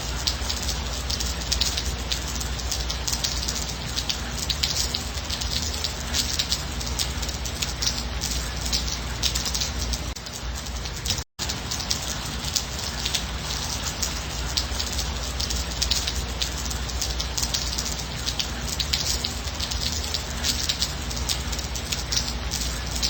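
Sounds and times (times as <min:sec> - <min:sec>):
gentle rain: 0:00.0 - 0:23.0.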